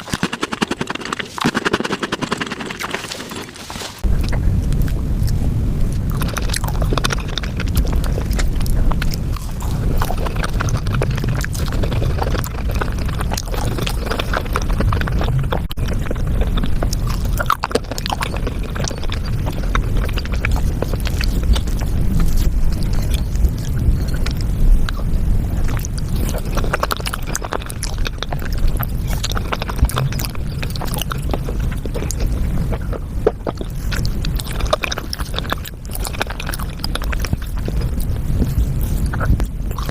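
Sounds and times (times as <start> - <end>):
sped-up chewing clicks and smacks: 0.0 - 39.9.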